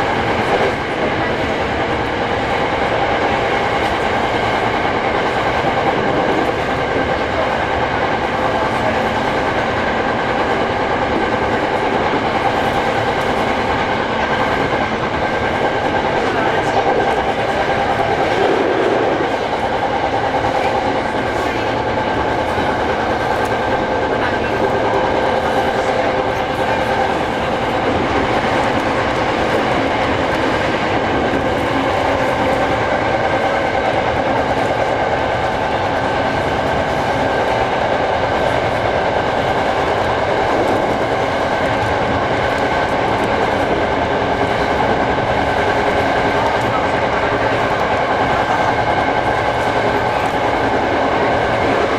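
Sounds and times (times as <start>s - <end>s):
steady electric train tones: 0.0s - 51.9s
wheel-on-rail running noise: 0.0s - 51.9s.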